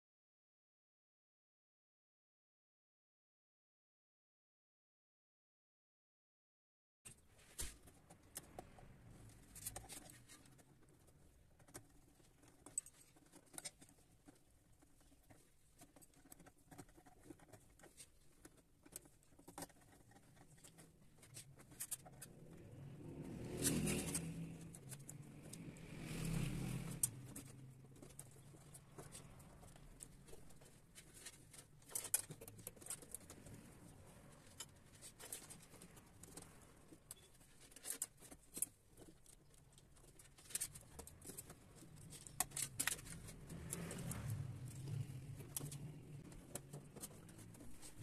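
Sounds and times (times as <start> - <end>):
wires clicking against plastic duct: 7.1 - 48.0
wires rustling: 7.1 - 48.0.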